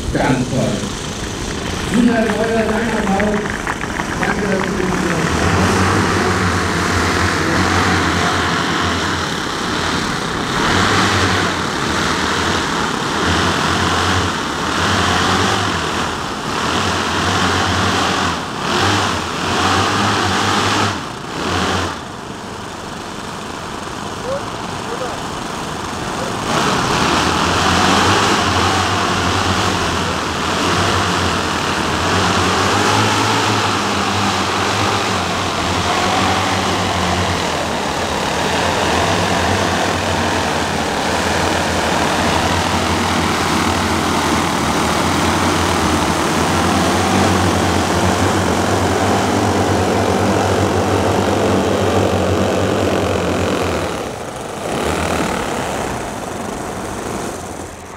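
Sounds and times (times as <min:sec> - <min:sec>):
model engines droning: 0:00.0 - 0:57.9.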